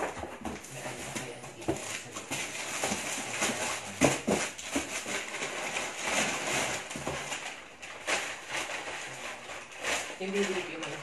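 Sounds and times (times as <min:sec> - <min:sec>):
knocks of items in box: 0:00.0 - 0:08.9
packaging rustling: 0:00.0 - 0:11.0.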